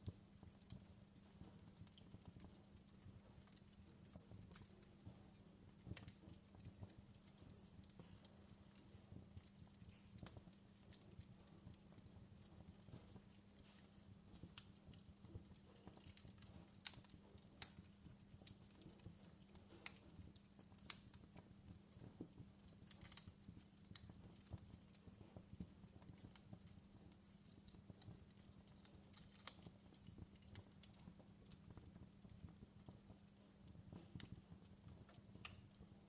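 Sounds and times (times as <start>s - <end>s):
fire crackling and popping: 0.0s - 36.0s.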